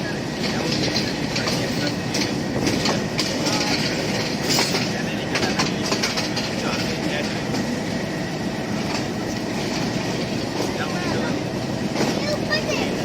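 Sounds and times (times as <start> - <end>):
train rolling rumble: 0.0 - 13.0
train wheels clicking over rail joints: 0.0 - 13.0.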